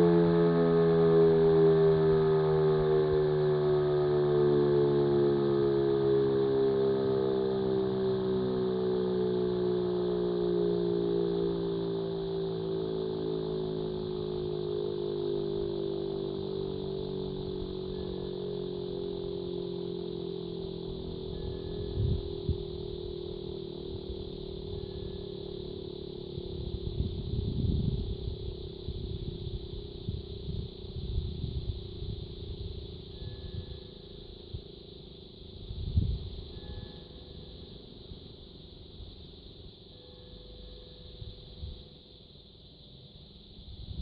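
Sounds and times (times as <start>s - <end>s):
air-raid siren winding down: 0.0s - 42.0s.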